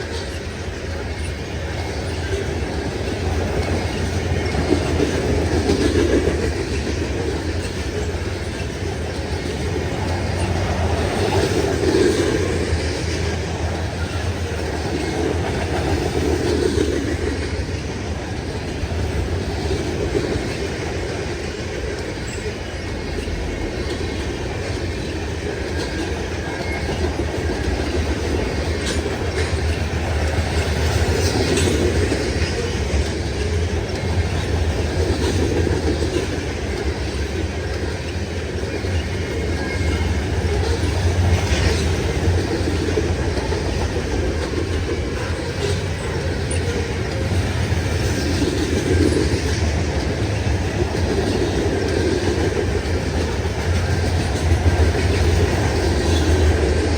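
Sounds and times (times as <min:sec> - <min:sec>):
freight train rumbling and rattling: 0:00.0 - 0:56.9
wheels clicking over rail joints: 0:00.0 - 0:56.9.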